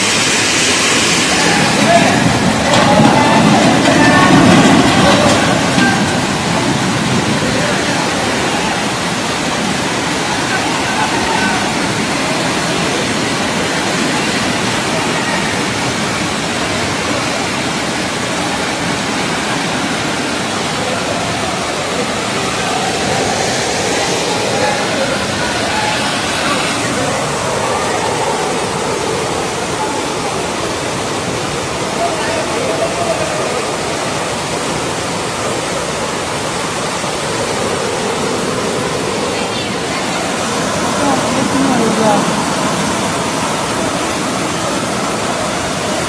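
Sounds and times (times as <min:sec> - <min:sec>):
floodwater rushing: 0:00.0 - 0:46.0.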